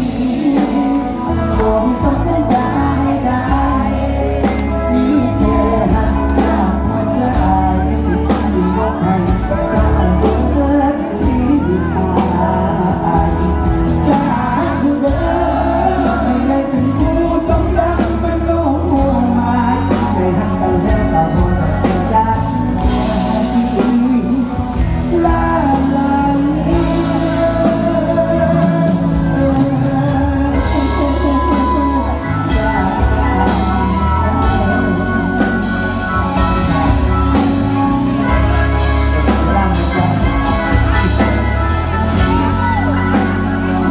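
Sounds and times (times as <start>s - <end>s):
live band music with heavy bass: 0.0s - 43.9s
person singing: 0.0s - 43.9s.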